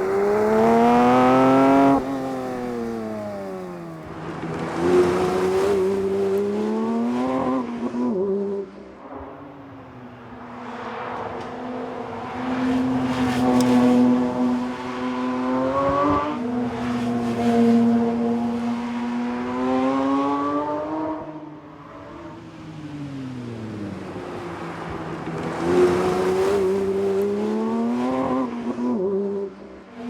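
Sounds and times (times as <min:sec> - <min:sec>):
car engine accelerating: 0:00.0 - 0:29.8.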